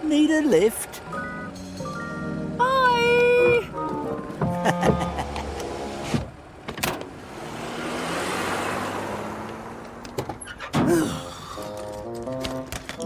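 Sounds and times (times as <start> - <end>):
low engine hum: 0.0 - 12.2.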